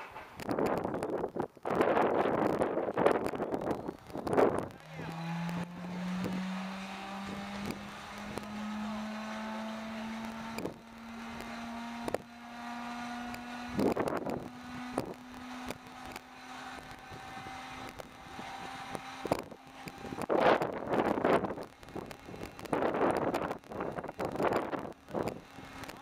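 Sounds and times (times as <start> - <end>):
sharp clicks: 0.0 - 9.3, 10.1 - 12.2, 13.3 - 26.0
starter motor whine rising: 0.4 - 26.0.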